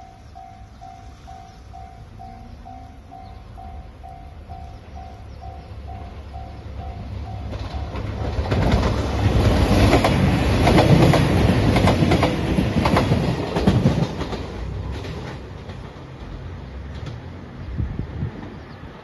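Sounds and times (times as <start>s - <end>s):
train wheels clicking on rail joints: 0.0s - 17.7s
diesel train passing: 0.0s - 19.0s.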